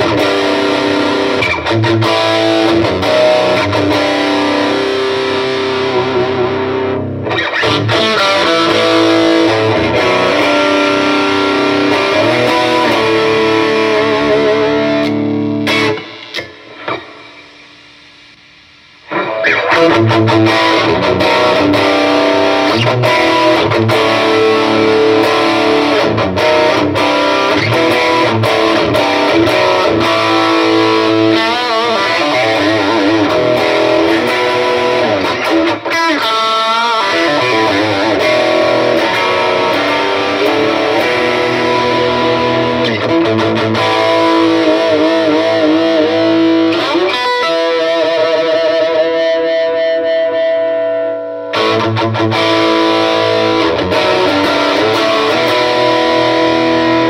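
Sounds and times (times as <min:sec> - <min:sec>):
electric guitar through amplifier: 0:00.0 - 0:57.0.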